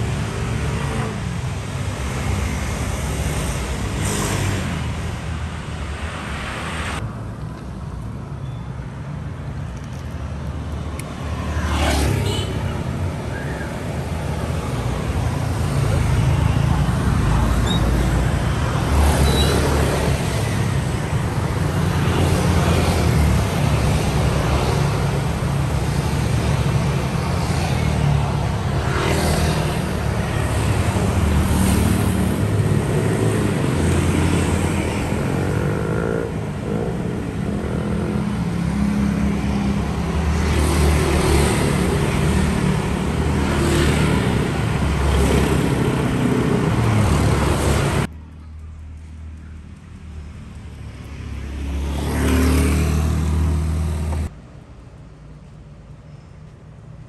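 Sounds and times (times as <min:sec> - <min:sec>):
road traffic with engines running: 0:00.0 - 0:57.0.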